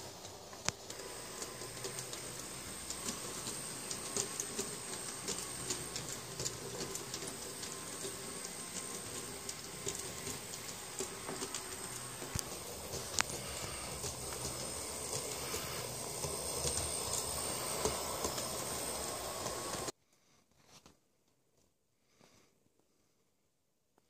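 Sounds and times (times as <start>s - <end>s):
model train motor hum: 0.0s - 19.9s
wheels clicking on rails: 0.0s - 19.9s.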